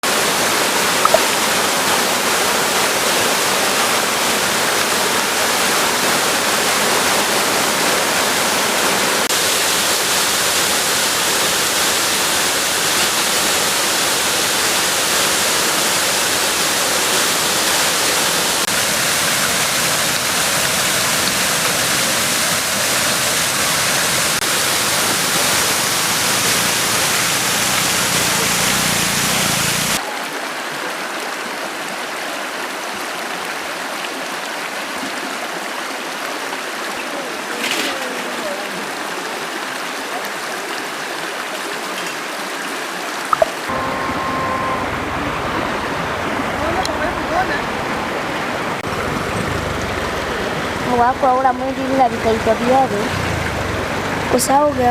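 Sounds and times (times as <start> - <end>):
flooded river rushing: 0.0 - 54.9.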